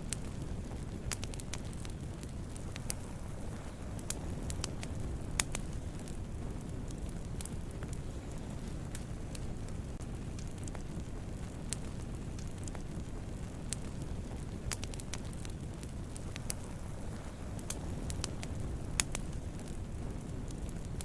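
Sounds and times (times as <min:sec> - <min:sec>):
campfire low rumble: 0:00.0 - 0:21.0
fire crackles and pops: 0:00.0 - 0:21.0.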